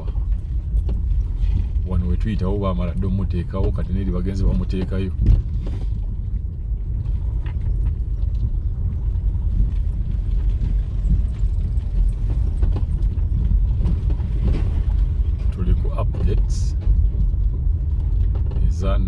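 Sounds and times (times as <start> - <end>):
vehicle rumbling along road: 0.0 - 19.0.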